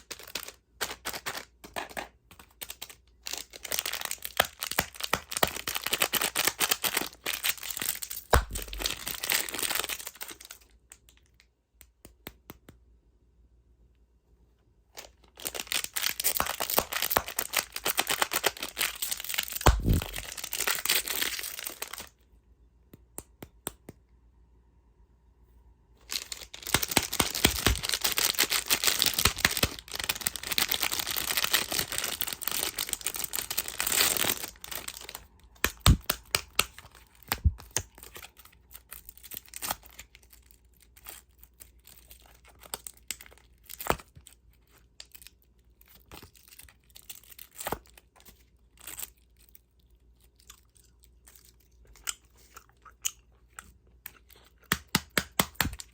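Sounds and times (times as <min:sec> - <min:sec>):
candy wrappers crinkling: 0:00.0 - 0:11.4, 0:15.0 - 0:22.2, 0:26.0 - 0:55.9.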